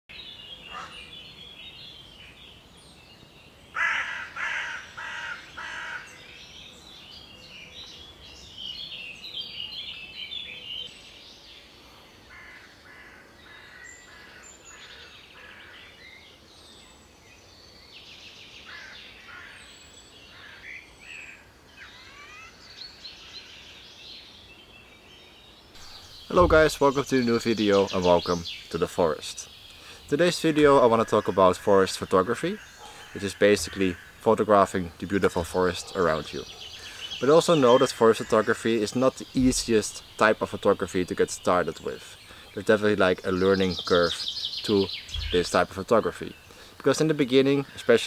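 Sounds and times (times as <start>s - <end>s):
harsh bird calls: 0.1s - 17.1s, 18.0s - 25.0s, 25.7s - 48.0s
songbird chirps and phrases: 0.1s - 48.0s
faint steady hiss: 5.4s - 48.0s.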